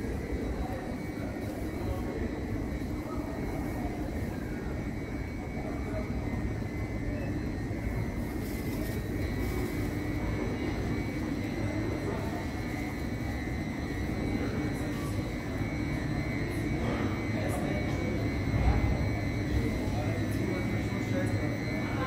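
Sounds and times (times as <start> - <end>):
low rumble and hum of station: 0.0 - 22.0.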